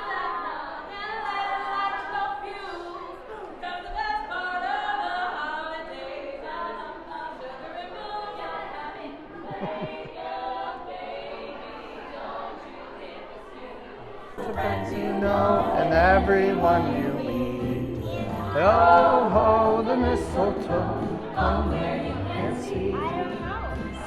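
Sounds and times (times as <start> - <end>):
a cappella group singing: 0.0 - 24.0.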